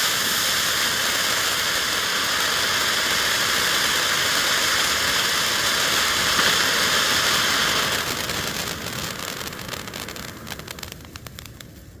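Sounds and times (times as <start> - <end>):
firework fountain hissing: 0.0 - 12.0
sharp crackles: 0.0 - 12.0.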